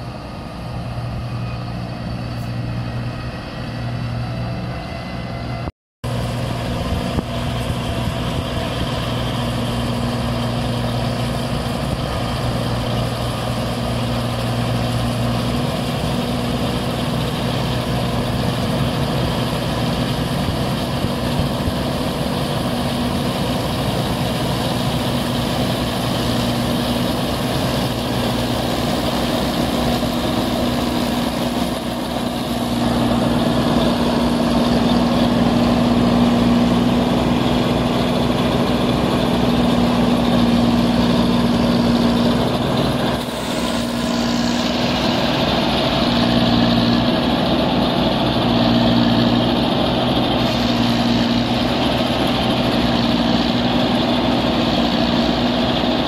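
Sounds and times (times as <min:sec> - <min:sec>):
harvester diesel engine running: 0:00.0 - 0:56.0.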